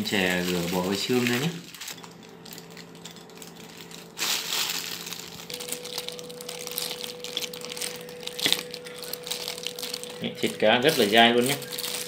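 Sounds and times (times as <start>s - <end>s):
crisp fish skin crackling: 0.0s - 12.0s
plastic glove crinkling: 0.0s - 12.0s.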